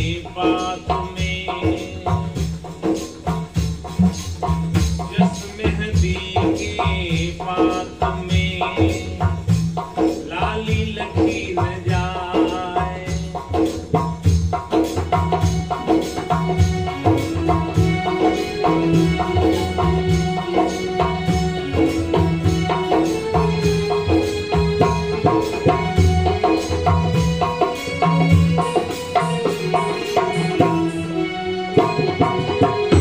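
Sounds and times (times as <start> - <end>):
frame drum with jingles: 0.0 - 31.0, 31.8 - 33.0.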